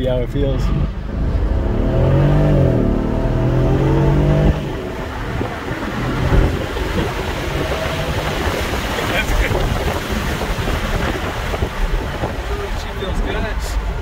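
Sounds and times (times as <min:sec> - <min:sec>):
car engine accelerating: 0:00.0 - 0:14.0
tyre and wind noise: 0:01.0 - 0:14.0.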